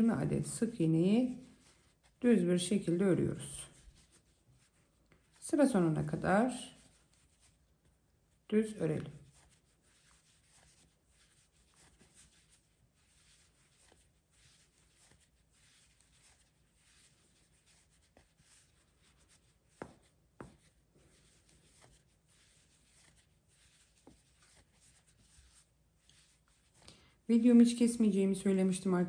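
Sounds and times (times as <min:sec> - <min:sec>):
crochet hook rubbing yarn: 0:00.0 - 0:26.8.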